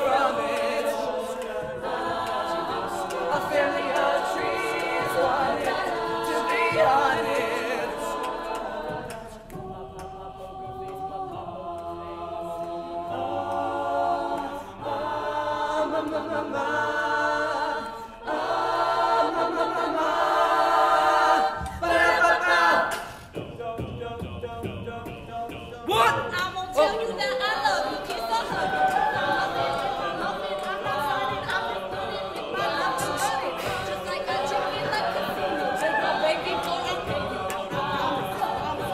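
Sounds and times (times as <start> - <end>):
a cappella group singing: 0.0 - 38.9.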